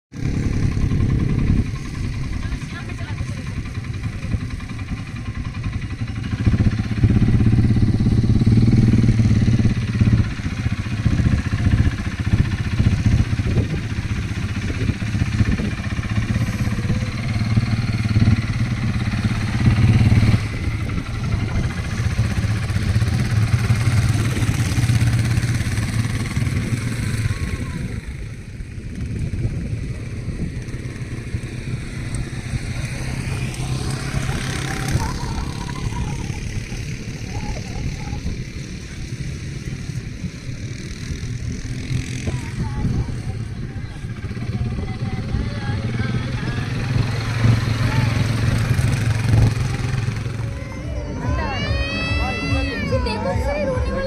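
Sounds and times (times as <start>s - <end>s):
quad bike engine running: 0.1s - 54.0s.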